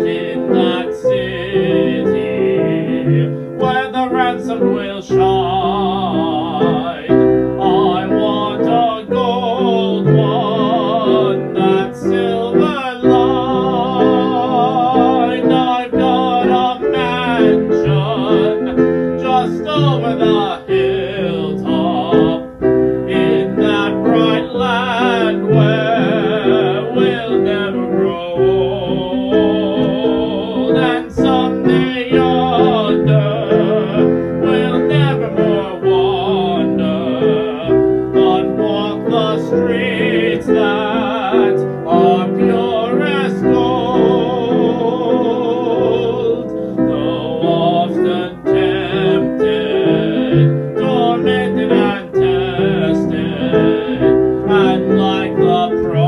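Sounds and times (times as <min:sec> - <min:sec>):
person singing with vibrato: 0:00.0 - 0:56.0
piano accompaniment: 0:00.0 - 0:56.0.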